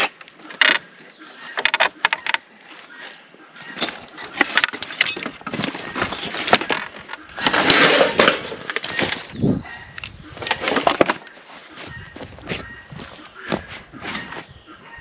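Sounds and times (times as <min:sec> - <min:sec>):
wood and metal hardware clinking: 0:00.0 - 0:14.5
scraping and rustling: 0:01.6 - 0:09.4, 0:10.1 - 0:14.5.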